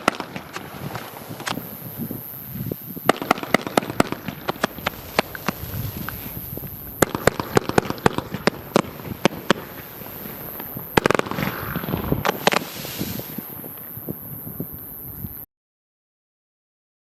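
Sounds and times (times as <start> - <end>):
fireworks popping: 0.0 - 15.5.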